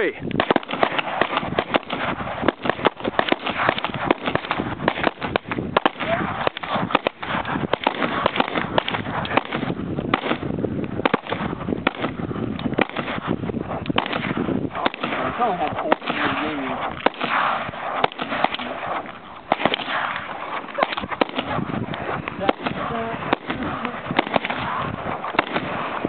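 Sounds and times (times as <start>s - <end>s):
rapid gunfire volleys: 0.0s - 26.0s.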